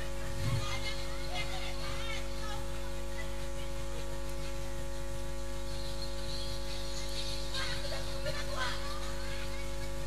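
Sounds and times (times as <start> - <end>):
faint voices: 0.0 - 5.6, 6.5 - 10.0
electrical mains hum: 0.0 - 10.0.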